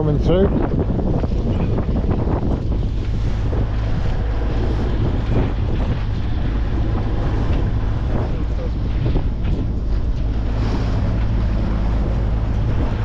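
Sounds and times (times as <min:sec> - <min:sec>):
steady low rumble: 0:00.0 - 0:13.0
water rushing around boat: 0:00.0 - 0:13.0
wind buffeting microphone: 0:00.0 - 0:13.0.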